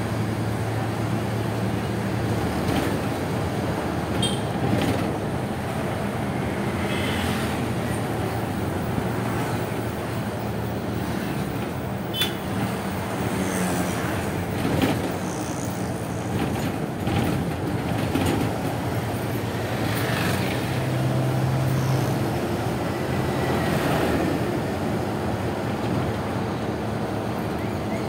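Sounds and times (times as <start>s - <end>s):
passing traffic: 0.0s - 28.0s
vehicle engine and road noise: 0.0s - 28.0s.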